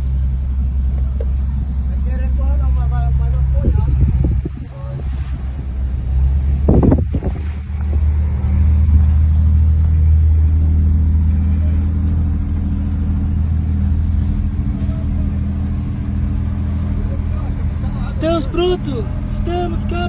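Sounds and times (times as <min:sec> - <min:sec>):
large engine droning: 0:00.0 - 0:20.0.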